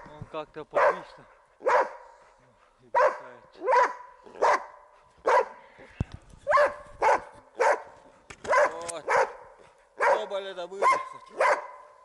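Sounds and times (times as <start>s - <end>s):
dog barking: 0.7s - 2.2s, 2.9s - 5.6s, 6.4s - 12.0s.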